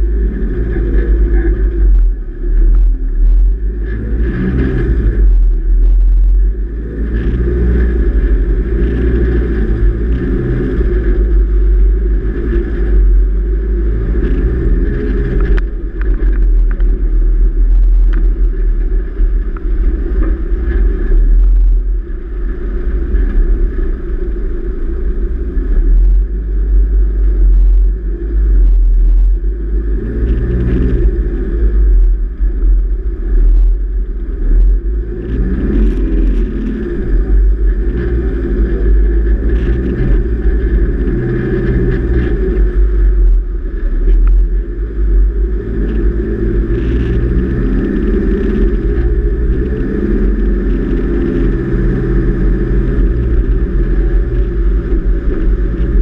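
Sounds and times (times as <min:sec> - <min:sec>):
deep steady rumble: 0:00.0 - 0:56.0
vehicle engine revving: 0:00.0 - 0:56.0.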